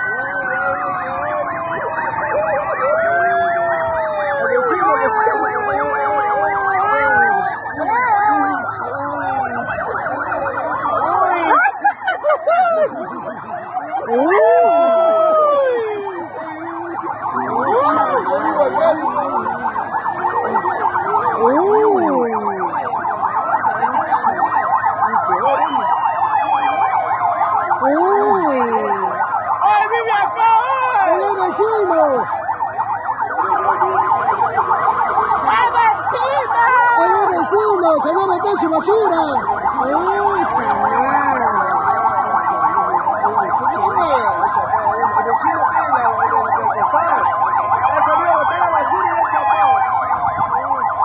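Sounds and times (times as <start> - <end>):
fast warbling siren yelp: 0.0 - 51.0
slow wailing siren: 0.0 - 51.0.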